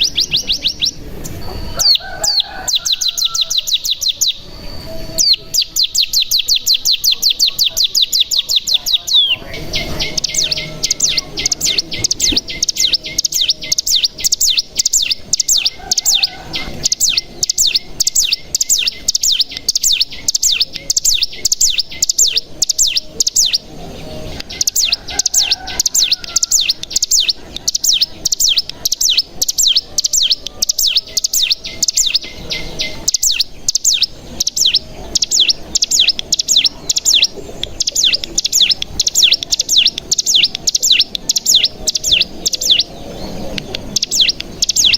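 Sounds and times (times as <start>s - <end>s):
bird singing a fast trill: 0.0s - 44.9s.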